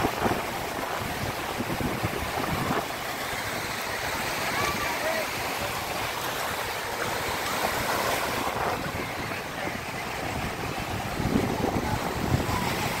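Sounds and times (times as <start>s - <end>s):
small waves breaking on shore: 0.0s - 13.0s
wind buffeting microphone: 0.0s - 13.0s.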